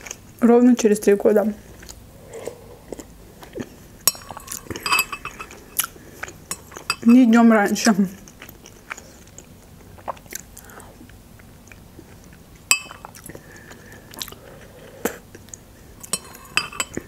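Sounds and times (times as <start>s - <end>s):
person chewing: 1.7s - 7.0s, 8.2s - 17.0s.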